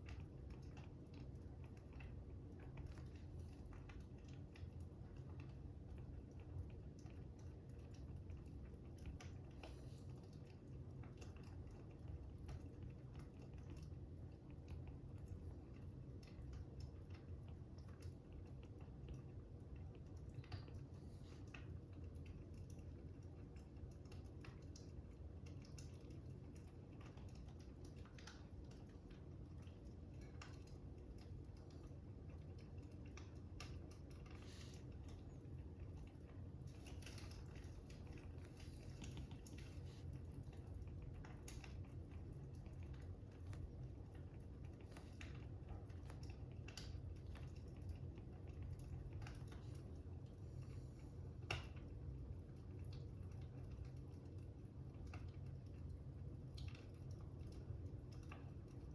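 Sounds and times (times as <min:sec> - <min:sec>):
fire crackling: 0:00.0 - 0:58.9.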